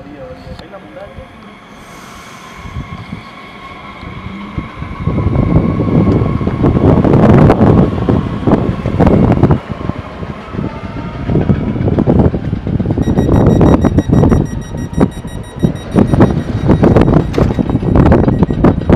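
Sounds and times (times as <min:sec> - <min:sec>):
electric train equipment hum: 0:00.0 - 0:18.9
wind rumbling on microphone: 0:02.5 - 0:18.9.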